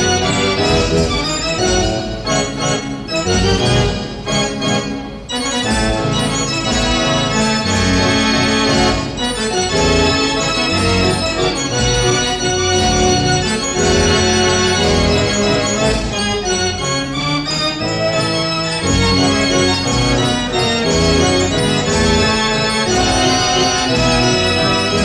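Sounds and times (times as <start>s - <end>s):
fairground organ playing a tune: 0.0s - 25.0s.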